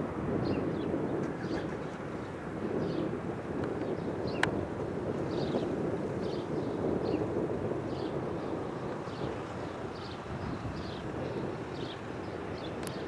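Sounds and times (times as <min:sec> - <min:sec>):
distant jet engine rumble: 0:00.0 - 0:13.0.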